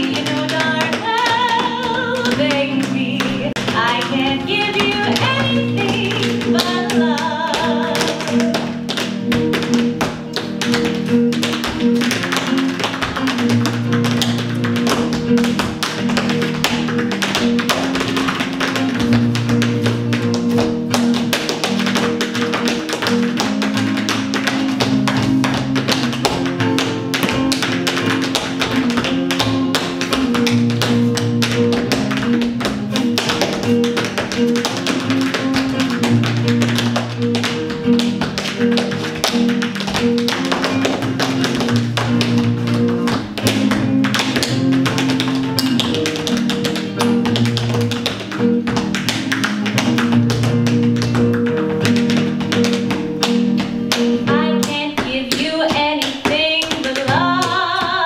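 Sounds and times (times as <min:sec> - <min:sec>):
tap shoes on stage floor: 0:00.0 - 0:58.0.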